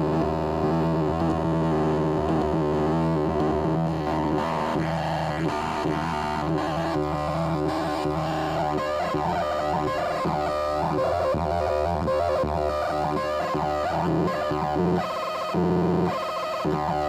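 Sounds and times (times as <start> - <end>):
distorted buzzing synthesizer drone: 0.0 - 17.0.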